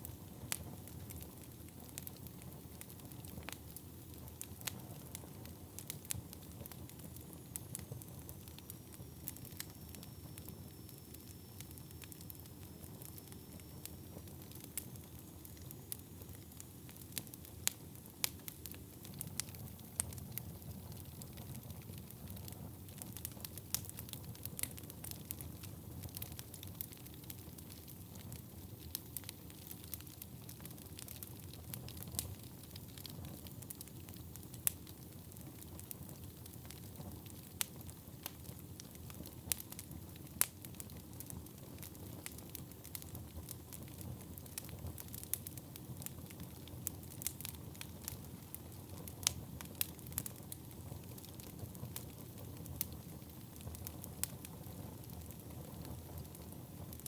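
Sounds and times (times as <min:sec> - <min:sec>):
burning logs crackling and popping: 0:00.0 - 0:57.0.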